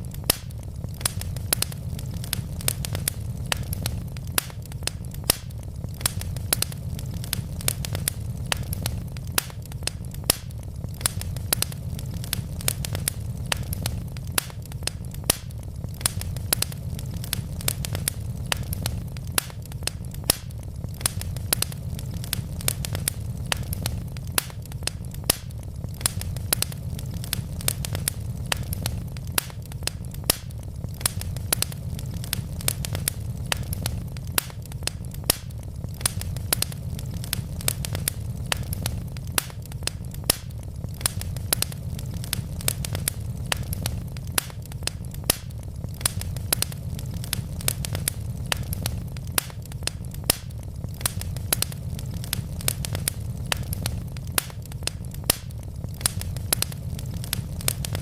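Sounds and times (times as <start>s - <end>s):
burning logs crackling: 0.0s - 58.0s
fire flames rumbling: 0.0s - 58.0s.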